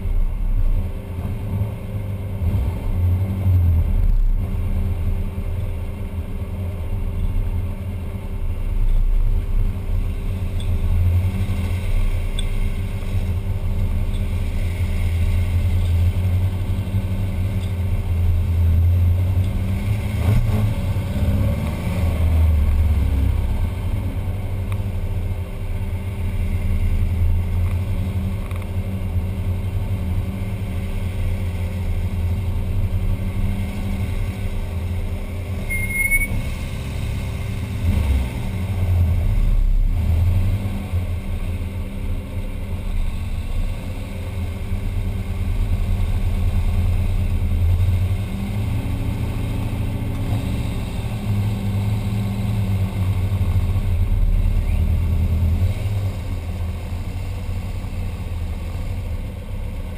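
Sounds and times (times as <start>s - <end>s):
van engine running at low speed: 0.0s - 59.9s.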